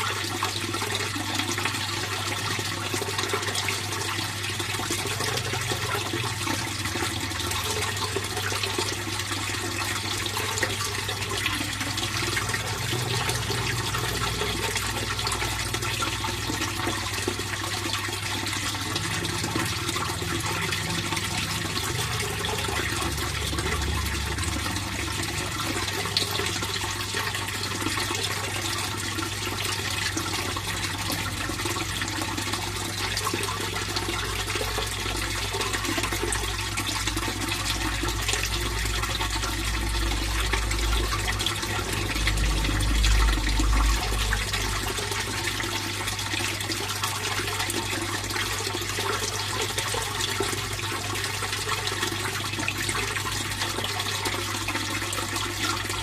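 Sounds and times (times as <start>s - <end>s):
pond water flowing and splashing: 0.0s - 56.0s.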